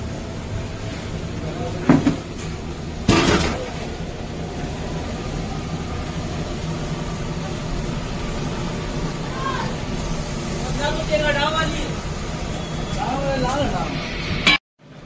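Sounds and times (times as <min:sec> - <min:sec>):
burner rumbling: 0:00.0 - 0:14.6.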